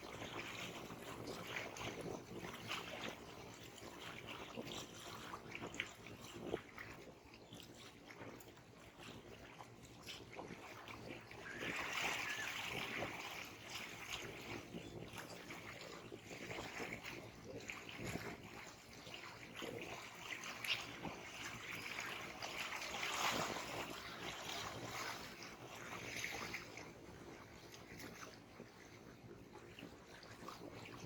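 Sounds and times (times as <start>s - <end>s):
small waves lapping at shore: 0.0s - 31.0s.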